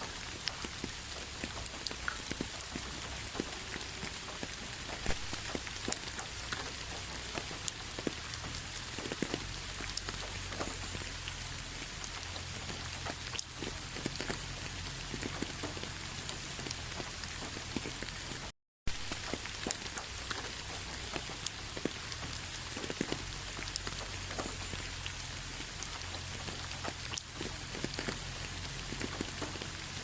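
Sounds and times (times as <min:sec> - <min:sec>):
raindrops ticking on hard surface: 0:00.0 - 0:30.0
steady rain: 0:00.0 - 0:30.0.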